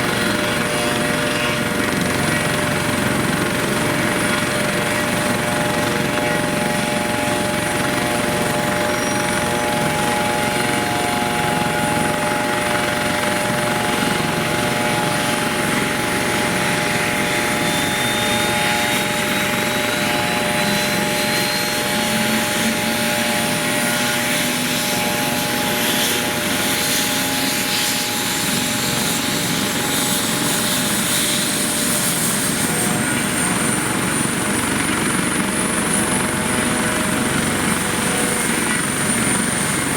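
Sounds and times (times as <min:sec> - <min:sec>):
helicopter engines and rotor: 0:00.0 - 0:39.9.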